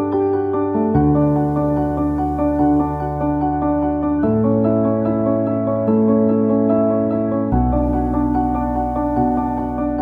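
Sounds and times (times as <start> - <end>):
piano melody of short notes: 0.0 - 10.0.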